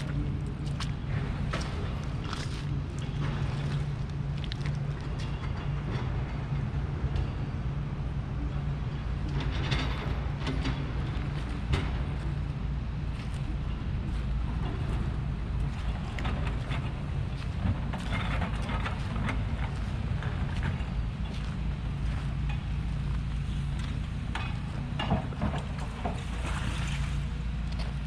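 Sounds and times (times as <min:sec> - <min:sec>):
diesel engine rumble: 0:00.0 - 0:28.0
rubble and metal clattering: 0:00.0 - 0:28.0.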